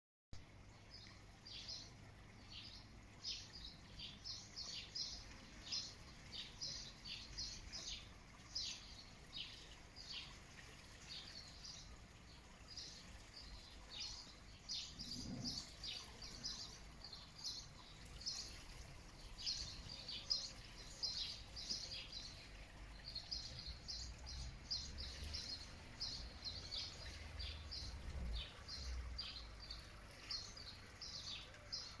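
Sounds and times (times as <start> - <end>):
songbirds chirping and singing: 0.8 - 32.0.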